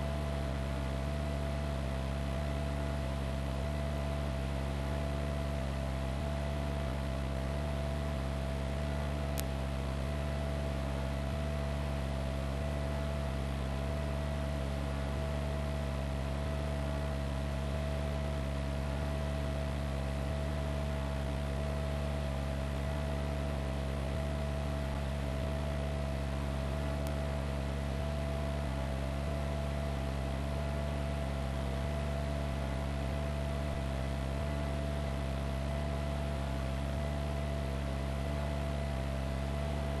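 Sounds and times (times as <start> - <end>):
helicopter drone from inside: 0.0 - 40.0.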